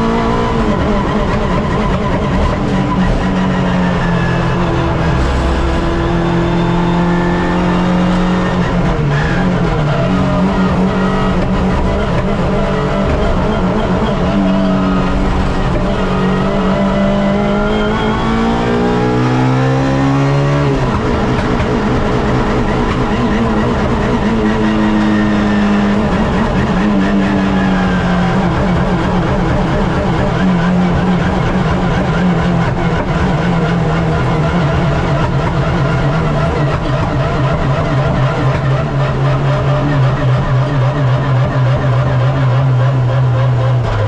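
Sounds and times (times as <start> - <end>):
race car engine running hard: 0.0 - 44.0.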